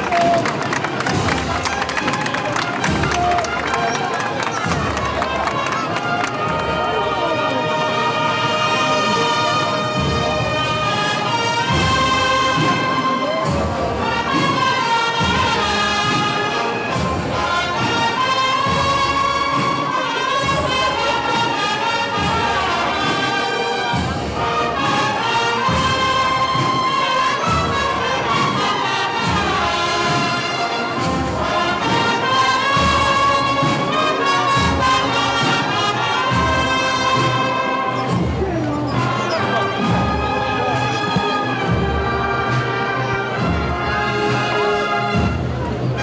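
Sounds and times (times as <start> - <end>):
brass band playing a march: 0.0 - 46.0
low drum beats: 0.0 - 46.0.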